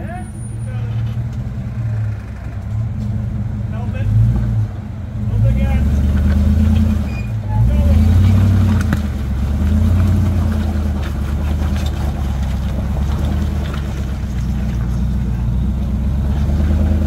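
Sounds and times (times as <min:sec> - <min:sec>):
engine running under load: 0:00.0 - 0:17.0.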